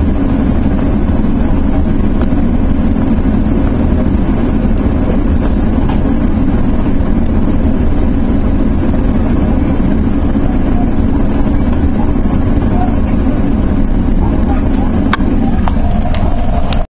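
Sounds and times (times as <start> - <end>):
train rumble from on board: 0.0 - 16.9.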